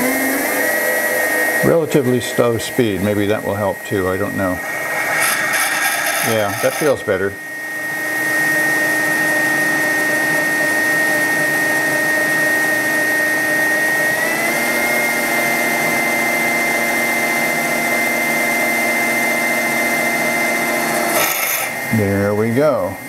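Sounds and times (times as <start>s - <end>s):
milling machine motor whining: 0.0s - 23.0s.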